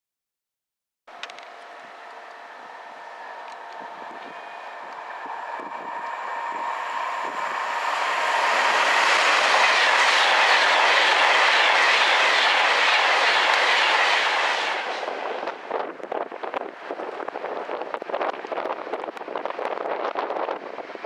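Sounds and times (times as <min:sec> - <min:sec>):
train passing at speed: 0:01.1 - 0:21.0.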